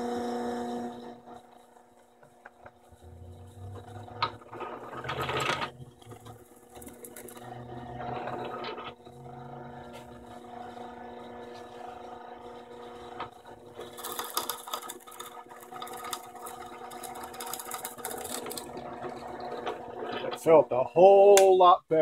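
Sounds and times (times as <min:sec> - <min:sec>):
drill bit scraping through wood: 0:00.0 - 0:20.6
drill press motor hum: 0:00.0 - 0:21.0.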